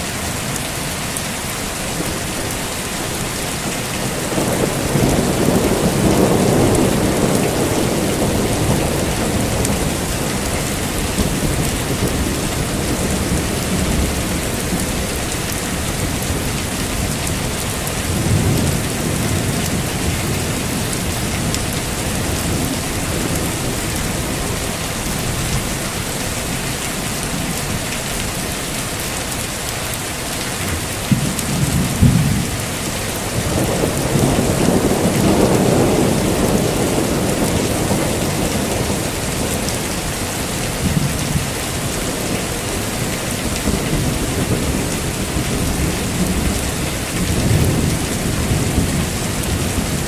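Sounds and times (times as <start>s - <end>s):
heavy rain falling: 0.0s - 50.0s
thunder rumbling: 1.4s - 50.0s.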